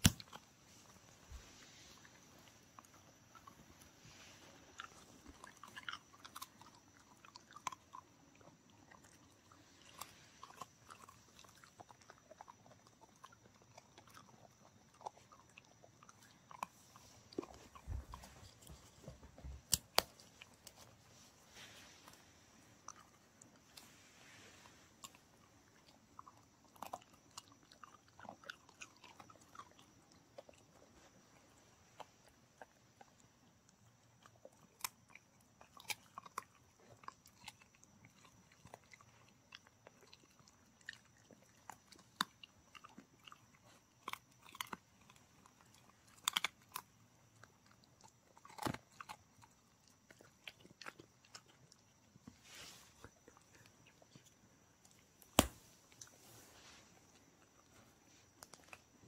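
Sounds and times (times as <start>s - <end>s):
dog chewing crunches: 0.0s - 21.4s, 22.0s - 56.2s.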